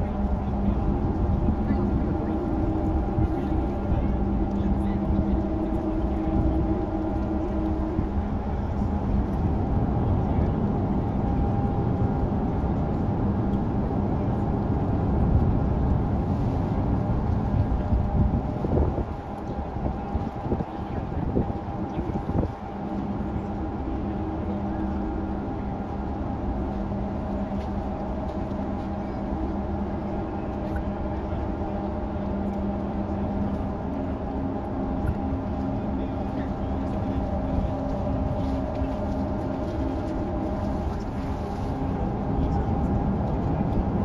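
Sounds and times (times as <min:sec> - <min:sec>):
low engine rumble: 0:00.0 - 0:44.0.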